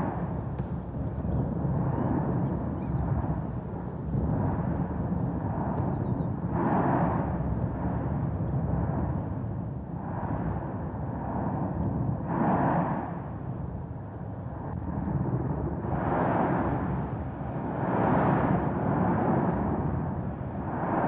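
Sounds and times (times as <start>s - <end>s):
volcanic eruption rumble: 0.0s - 21.0s.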